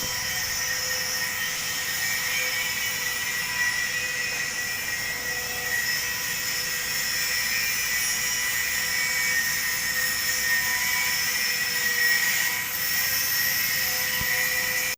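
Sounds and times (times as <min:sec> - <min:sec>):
high whine: 0:00.0 - 0:12.7.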